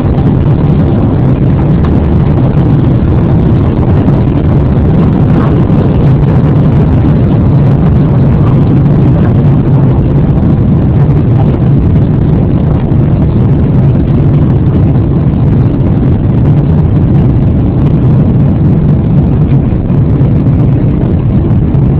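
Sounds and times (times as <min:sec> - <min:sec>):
jet engines roaring: 0:00.0 - 0:21.9.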